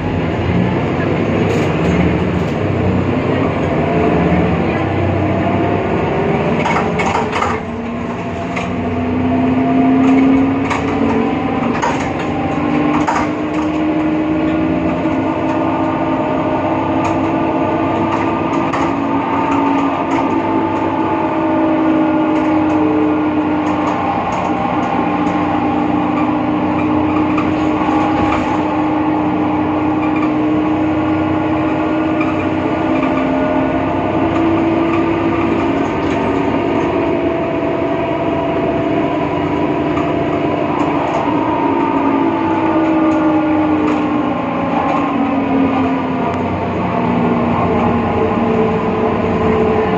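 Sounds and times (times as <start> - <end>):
bus drivetrain whine: 0.0 - 49.9
diesel engine running: 0.0 - 49.9.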